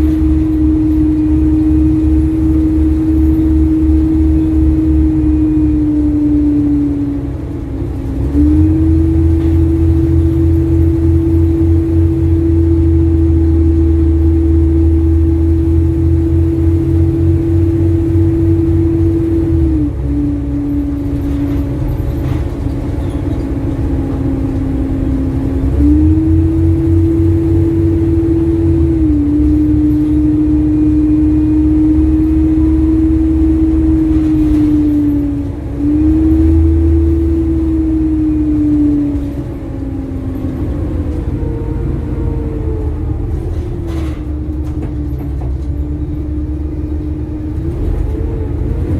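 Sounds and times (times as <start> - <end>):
exhaust ticking: 0.0 - 43.6
bus engine whining drone: 0.0 - 48.9.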